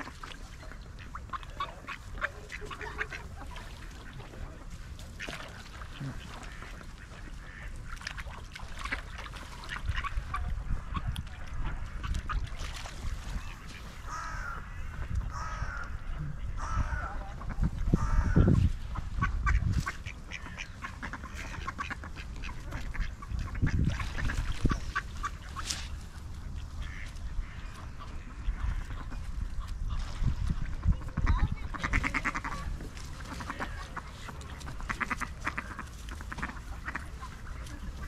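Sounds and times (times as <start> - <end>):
ducks quacking: 0.0 - 38.0.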